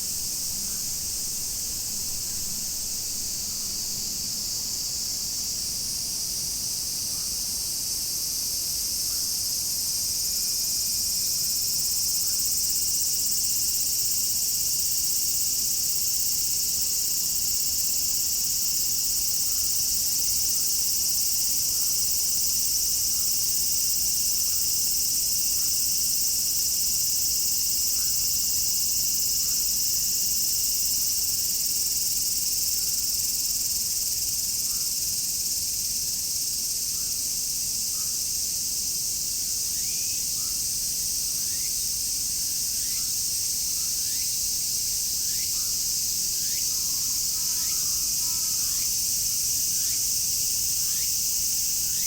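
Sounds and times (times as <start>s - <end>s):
cicadas shrilling: 0.0s - 52.0s.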